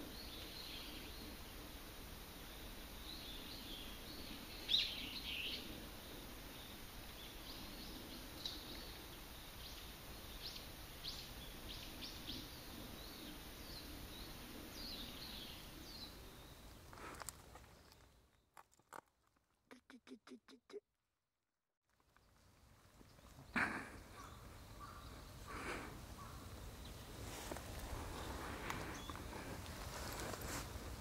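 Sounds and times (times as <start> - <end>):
small birds chirping: 2.5 - 19.0, 22.0 - 30.4.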